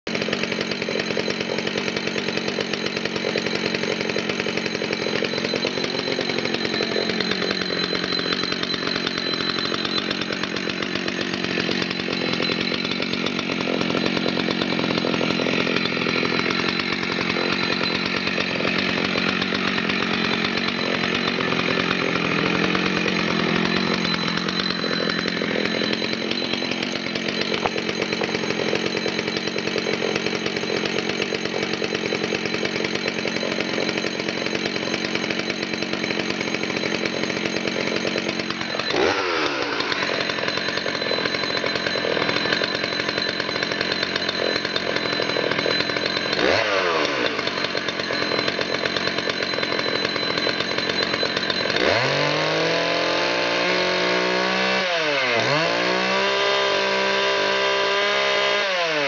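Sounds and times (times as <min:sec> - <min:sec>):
chainsaw engine idling: 0:00.1 - 0:59.0.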